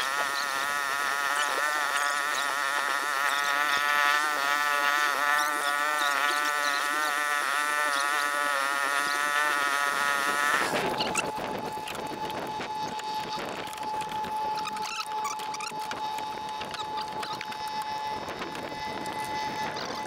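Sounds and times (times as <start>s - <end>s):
small boat engine droning: 0.0s - 20.0s.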